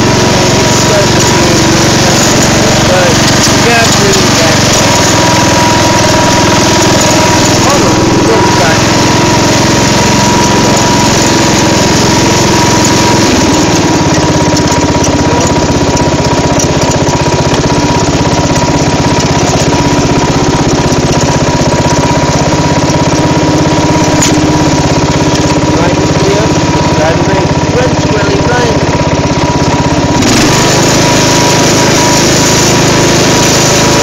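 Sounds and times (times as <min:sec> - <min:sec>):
riding mower engine running: 0:00.0 - 0:34.0.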